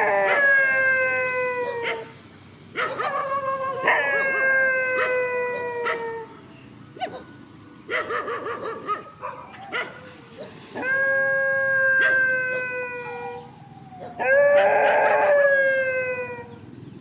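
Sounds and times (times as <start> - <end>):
dogs howling: 0.0 - 2.2, 2.8 - 6.4, 7.9 - 16.7
dogs yelping: 0.0 - 6.4, 7.0 - 16.6.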